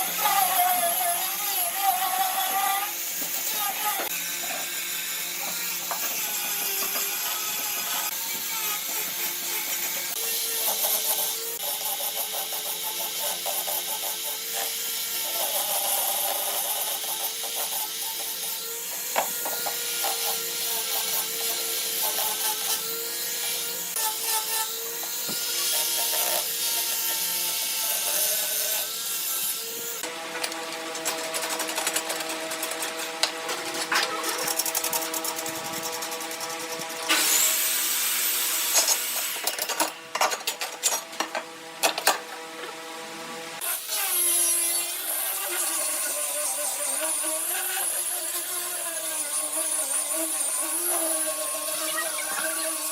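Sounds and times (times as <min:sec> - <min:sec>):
power tool motor whine: 0:00.0 - 0:40.0, 0:41.6 - 0:52.9.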